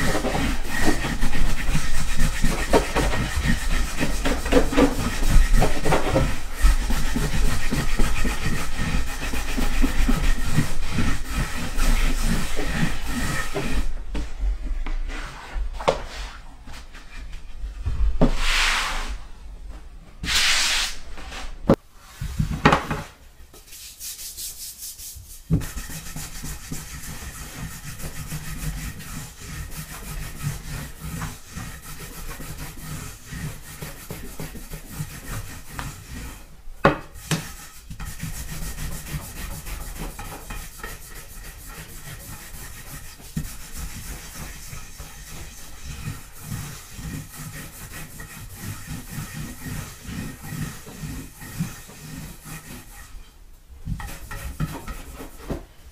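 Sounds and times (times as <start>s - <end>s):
rolling pin rubbing on dough: 0.0s - 14.0s, 23.7s - 55.9s
rolling pin swishing strokes: 0.0s - 17.0s, 18.2s - 19.3s, 20.2s - 53.2s, 53.8s - 55.9s.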